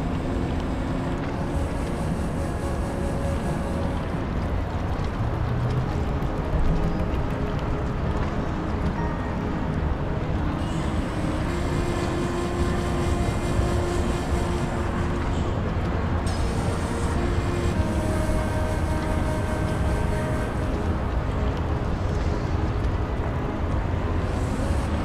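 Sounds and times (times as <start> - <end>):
hall background hum and rumble: 0.0 - 25.0.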